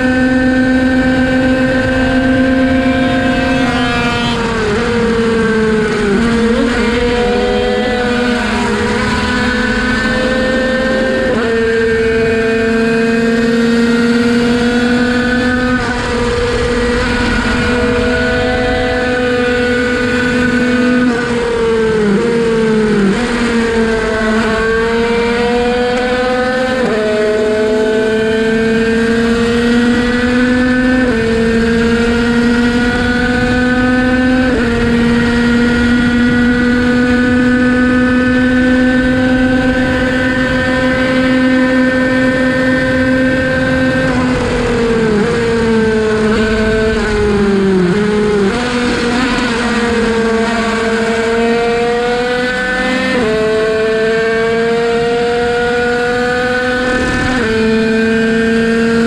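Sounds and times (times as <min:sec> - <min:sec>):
two-stroke racing engine: 0:00.0 - 0:59.0.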